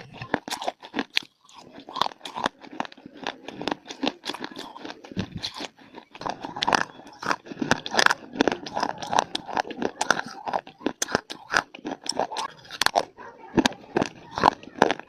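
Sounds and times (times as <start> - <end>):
chewing dry clay: 0.0 - 15.0.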